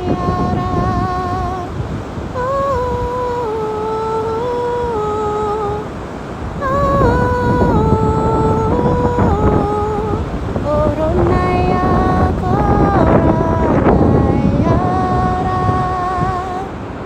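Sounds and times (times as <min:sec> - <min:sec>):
woman humming a melody: 0:00.0 - 0:06.0, 0:06.6 - 0:16.8
wind and surf: 0:00.0 - 0:17.0.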